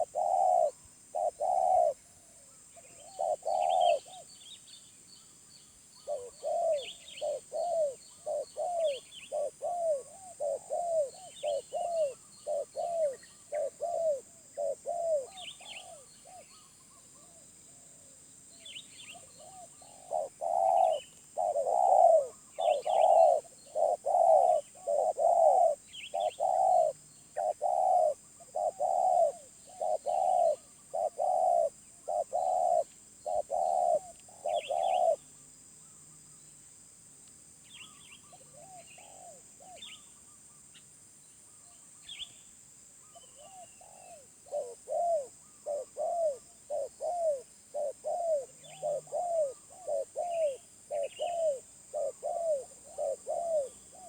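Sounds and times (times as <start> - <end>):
dove cooing: 0.0 - 4.3, 6.0 - 17.4, 19.1 - 35.2, 38.2 - 40.0, 43.1 - 54.0
small birds chirping: 2.7 - 17.4, 18.4 - 36.6, 37.6 - 54.0.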